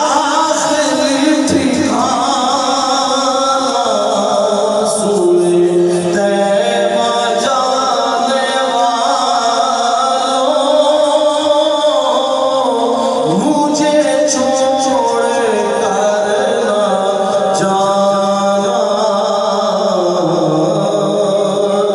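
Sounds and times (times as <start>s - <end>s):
man singing unaccompanied: 0.0s - 21.9s.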